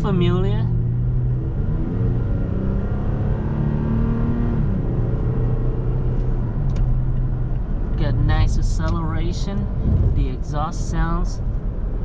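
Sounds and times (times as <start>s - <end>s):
car engine accelerating and upshifting: 0.0s - 10.6s.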